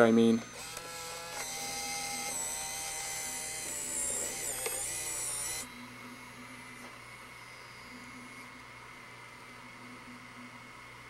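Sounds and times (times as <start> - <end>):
tape motor high-pitched whine: 0.0 - 11.0.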